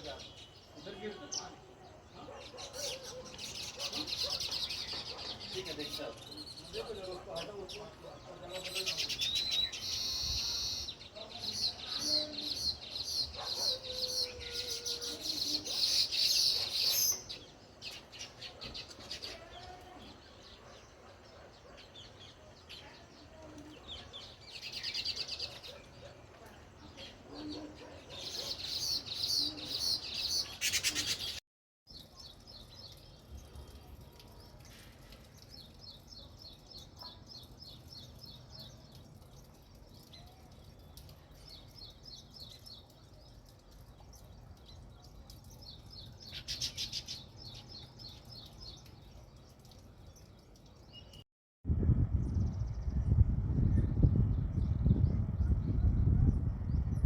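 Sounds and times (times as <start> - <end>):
sparrows chirping: 0.0 - 51.2, 52.1 - 57.0.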